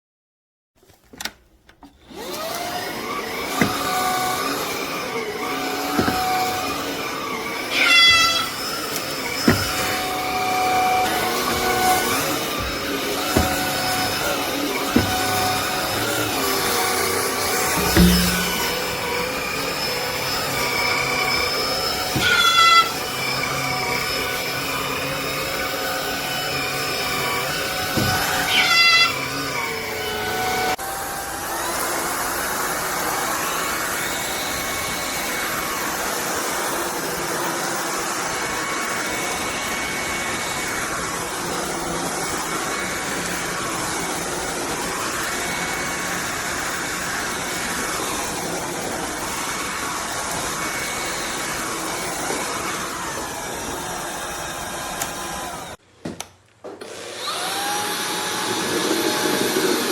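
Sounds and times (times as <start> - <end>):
stick vacuum motor whine: 1.8 - 55.8, 56.7 - 59.9.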